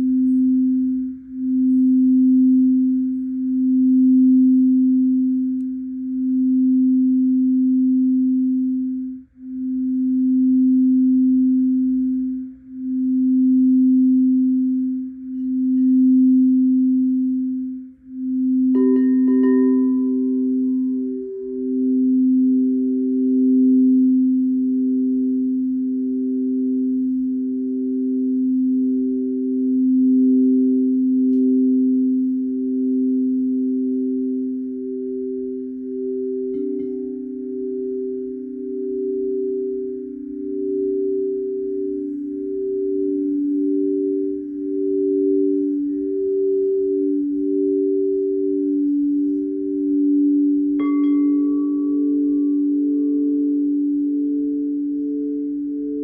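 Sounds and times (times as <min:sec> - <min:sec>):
higher singing bowl ringing: 0:00.0 - 0:56.0
singing bowl low tone: 0:00.0 - 0:56.0.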